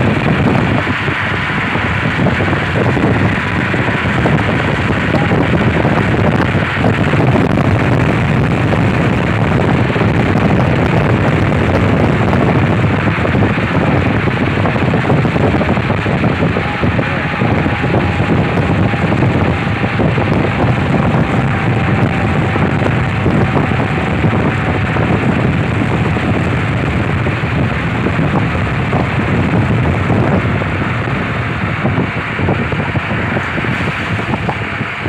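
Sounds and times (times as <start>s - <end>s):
road noise: 0.0s - 35.0s
wind rush in car cabin: 0.0s - 35.0s.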